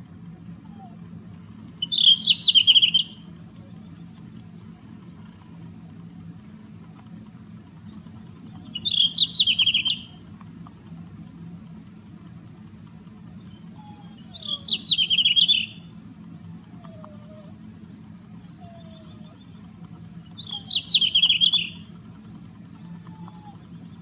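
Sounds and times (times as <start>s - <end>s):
steady low hum: 0.0s - 24.0s
songbird singing: 0.6s - 24.0s.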